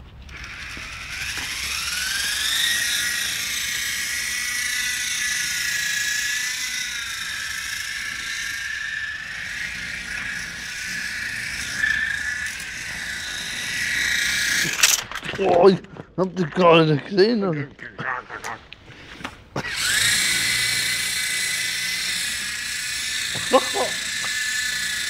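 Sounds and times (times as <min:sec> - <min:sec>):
model helicopter rotor whine: 0:00.0 - 0:15.6, 0:19.6 - 0:25.0.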